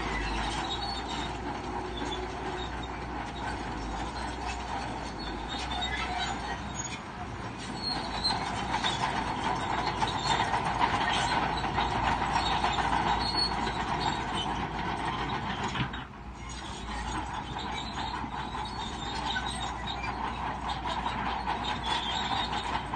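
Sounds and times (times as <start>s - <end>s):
bulldozer engine running: 0.0s - 22.9s
steel tracks clanking and squealing: 0.0s - 22.9s.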